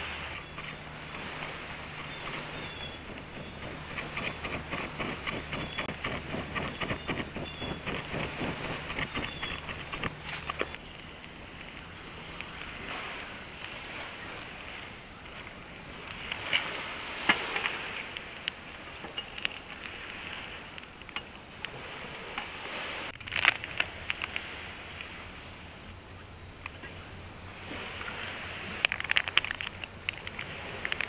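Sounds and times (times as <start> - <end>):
campfire crackling and popping: 0.2 - 25.1, 28.8 - 31.0.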